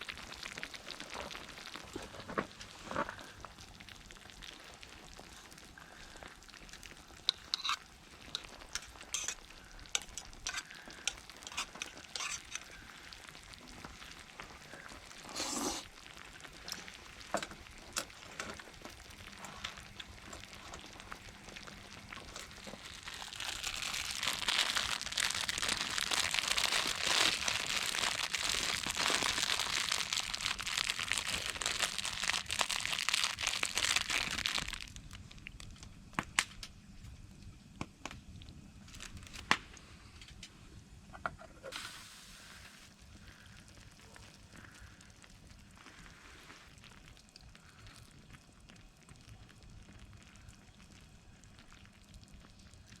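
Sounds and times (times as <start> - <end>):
food frying in a pan: 0.0 - 39.6, 41.6 - 53.0
clicks and small crackles: 0.0 - 41.8, 43.0 - 53.0.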